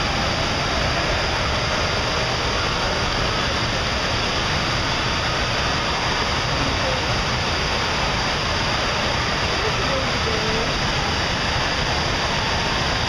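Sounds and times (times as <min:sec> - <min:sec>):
churning water from hot tub jets: 0:00.0 - 0:13.0
running water: 0:00.0 - 0:13.0.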